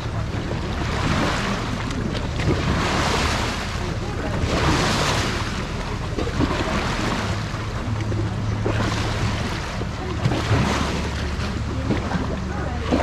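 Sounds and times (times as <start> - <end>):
low boat engine hum: 0.0 - 13.0
water rushing along hull: 0.0 - 13.0.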